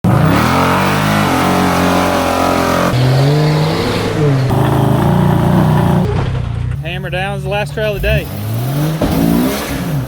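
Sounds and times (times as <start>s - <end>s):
engine revving under load: 0.0s - 6.6s, 8.0s - 10.0s.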